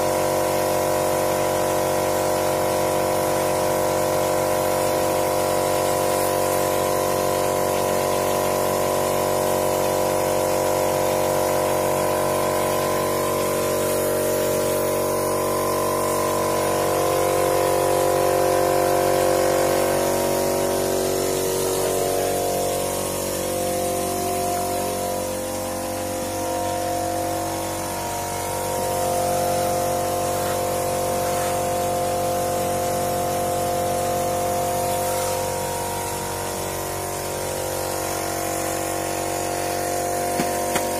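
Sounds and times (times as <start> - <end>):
spray gun hissing: 0.0 - 40.9
machine hum: 6.4 - 40.9.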